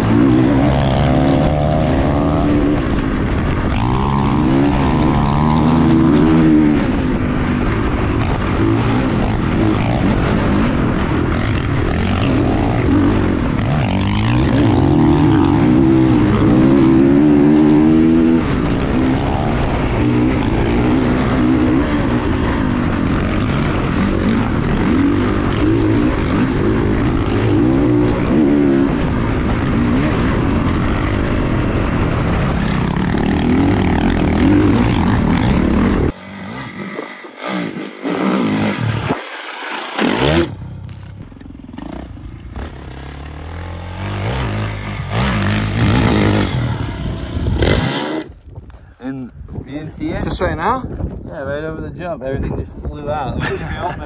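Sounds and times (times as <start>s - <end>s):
dirt bike engine revving: 0.0s - 48.5s.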